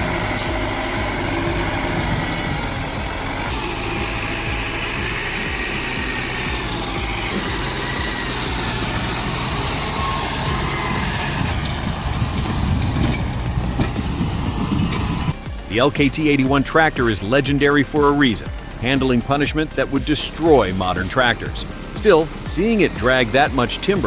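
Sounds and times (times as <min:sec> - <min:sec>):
heavy vehicle engine running: 0:00.0 - 0:24.0.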